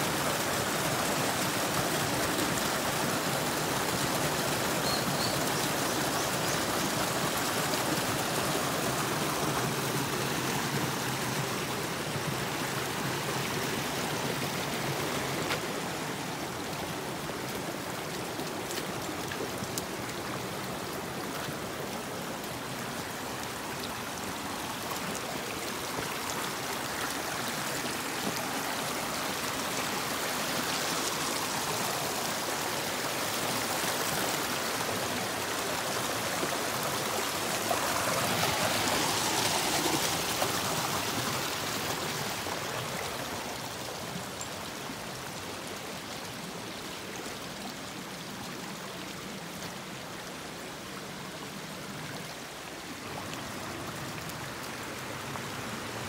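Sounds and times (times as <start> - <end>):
stream rushing over stones: 0.0 - 56.0.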